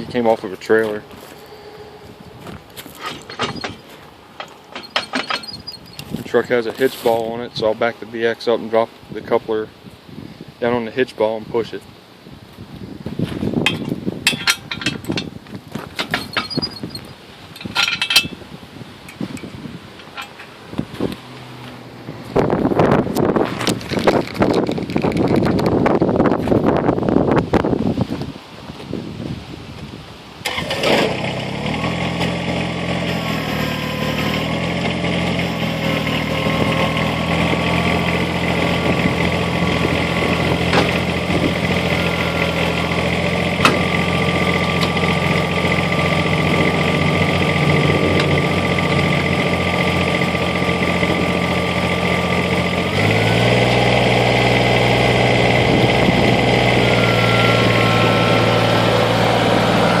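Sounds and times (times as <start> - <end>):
tractor diesel engine running: 0.0 - 9.4, 13.6 - 26.4, 30.4 - 60.0.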